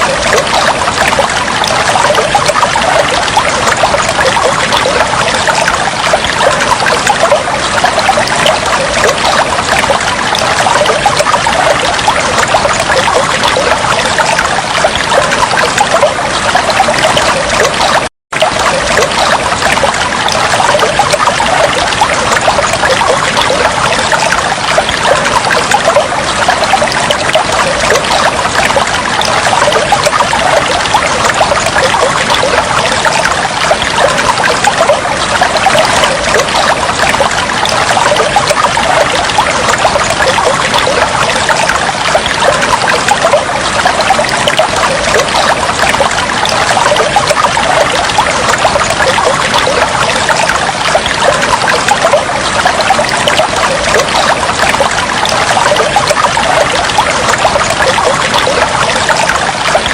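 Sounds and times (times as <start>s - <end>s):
water flowing and trickling: 0.0s - 59.9s.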